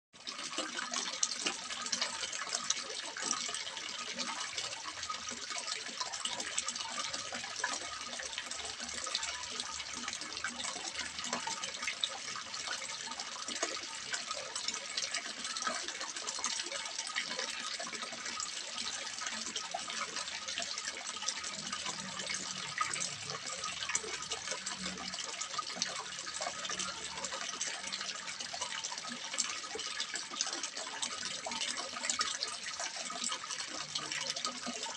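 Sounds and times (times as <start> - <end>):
water splashing into pond: 0.2 - 34.9.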